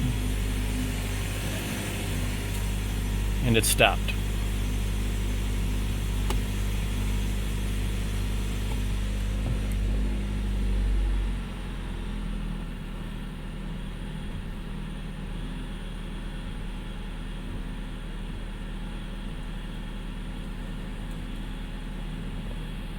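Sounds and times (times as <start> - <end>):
car engine humming: 0.0 - 21.2.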